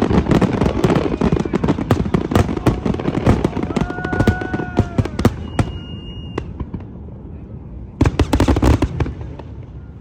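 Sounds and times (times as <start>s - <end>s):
firework whistling: 0.0s - 10.0s
fireworks bangs and crackles: 0.0s - 10.0s.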